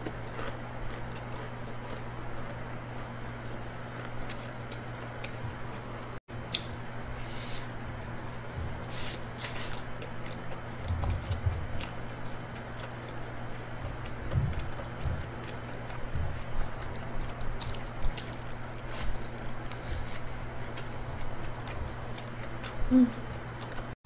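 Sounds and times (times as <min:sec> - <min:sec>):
person chewing fried chicken: 0:00.0 - 0:24.0
steady low hum: 0:00.0 - 0:24.0.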